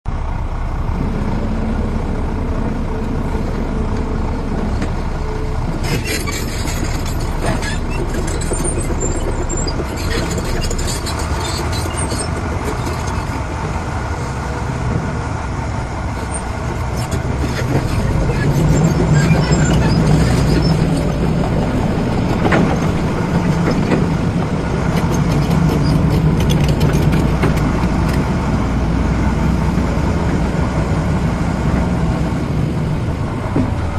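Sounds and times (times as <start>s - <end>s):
heavy machinery diesel engines: 0.1s - 33.9s.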